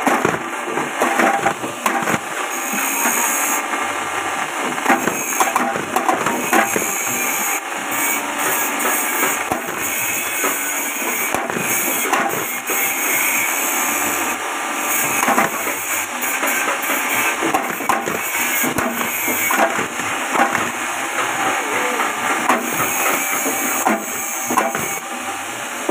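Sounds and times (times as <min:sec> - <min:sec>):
chaff cutter chopping cassava: 0:00.0 - 0:03.9, 0:04.6 - 0:13.6, 0:14.9 - 0:25.2.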